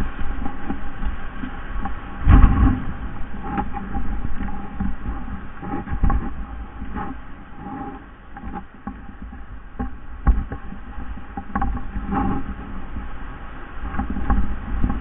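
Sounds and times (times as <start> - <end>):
wind and handling rumble: 0.0 - 15.0.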